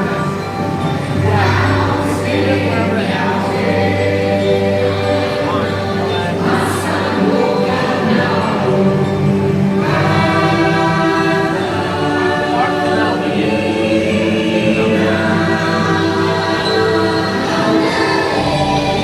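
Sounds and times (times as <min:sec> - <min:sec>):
choir singing long notes: 0:00.0 - 0:19.0
music backing: 0:00.0 - 0:19.0.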